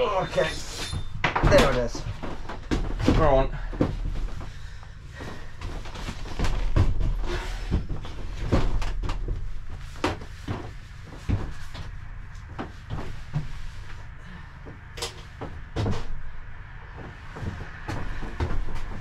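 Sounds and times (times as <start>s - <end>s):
knocks scuffs and rustles: 0.0s - 19.0s
low rumble: 0.0s - 19.0s.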